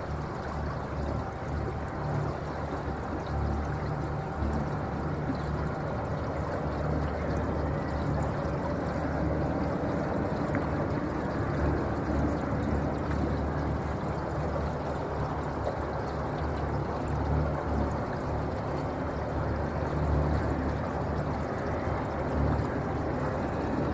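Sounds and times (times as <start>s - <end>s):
water rushing along boat hull: 0.0s - 23.9s.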